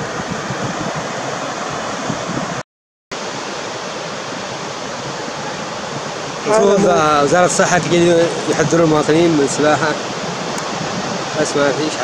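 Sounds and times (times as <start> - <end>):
sea surf on beach: 0.0 - 12.0.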